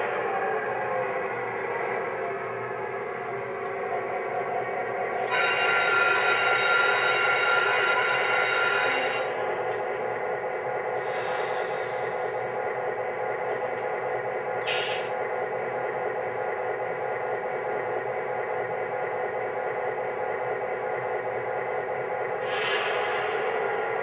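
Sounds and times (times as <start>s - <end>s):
diesel locomotive idling sound: 0.0s - 24.0s.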